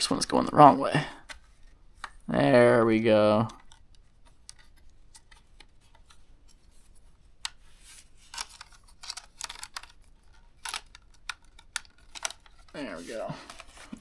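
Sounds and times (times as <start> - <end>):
laptop parts clicking and scraping: 1.1 - 14.0.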